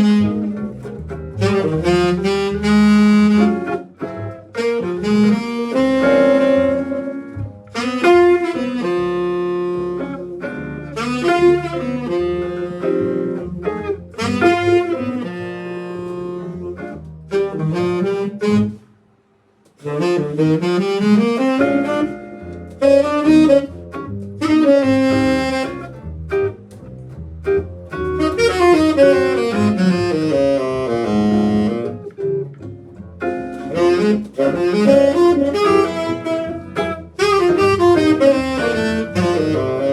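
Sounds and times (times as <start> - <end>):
jazz band playing: 0.0 - 18.9, 19.7 - 39.9
saxophone melody: 0.0 - 19.0, 19.8 - 26.7, 27.4 - 39.9.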